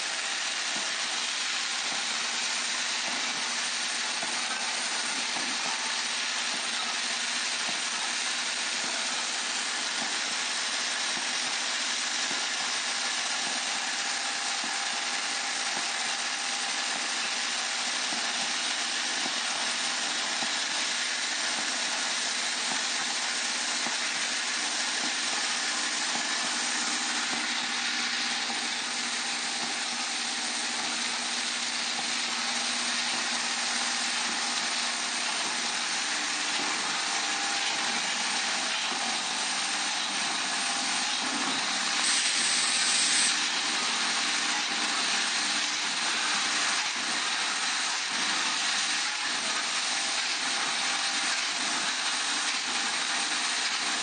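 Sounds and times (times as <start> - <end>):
electric buzz of bowl feeders: 0.0 - 54.0.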